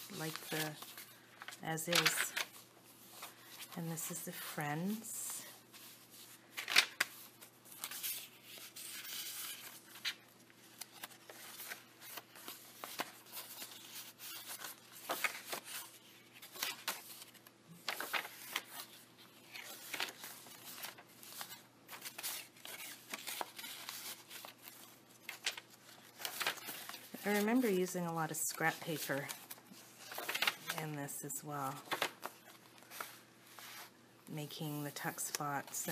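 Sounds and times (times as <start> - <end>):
paper pages rustling and crinkling: 0.0 - 3.8, 4.4 - 33.9.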